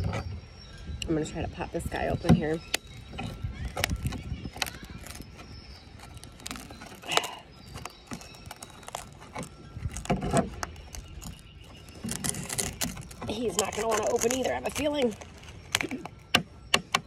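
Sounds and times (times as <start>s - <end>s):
knife scraping clam shell: 2.7s - 16.4s.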